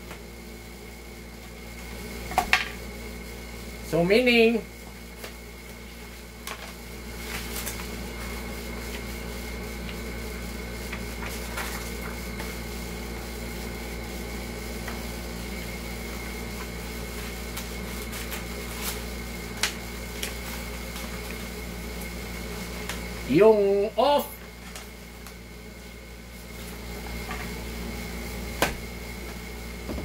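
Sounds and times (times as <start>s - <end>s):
machine hum with high whine: 0.0s - 30.0s.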